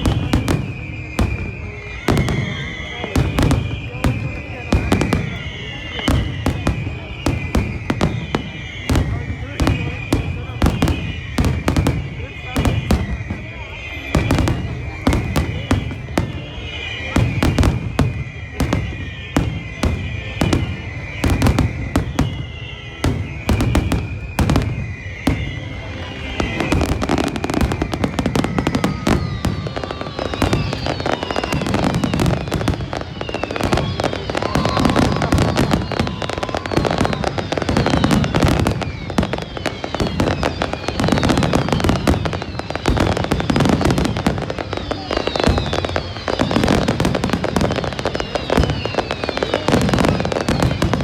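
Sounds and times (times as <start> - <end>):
booming firework bursts: 0.0 - 51.0
crackling firework barrage: 0.0 - 51.0
falling firework whistles: 0.0 - 51.0.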